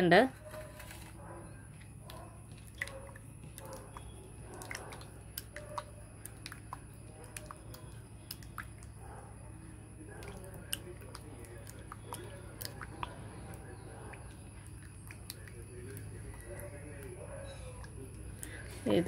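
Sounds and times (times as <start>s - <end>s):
hand squelching wet leaf paste: 0.5s - 19.0s.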